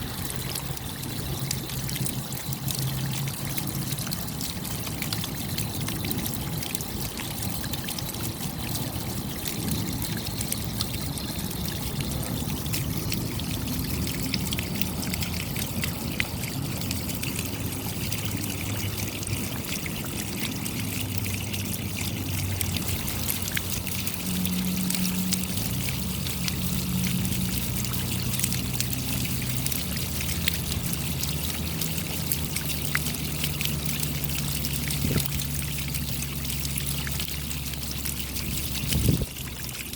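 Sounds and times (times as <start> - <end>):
low steady hum: 0.0 - 39.9
steady rain: 0.0 - 39.9
trickle of running water: 0.0 - 39.9.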